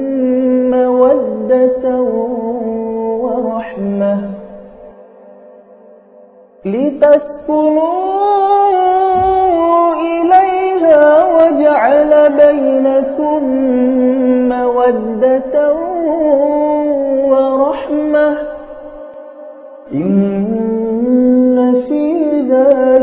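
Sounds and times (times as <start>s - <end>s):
person reciting melodically: 0.0s - 4.9s, 6.6s - 23.0s.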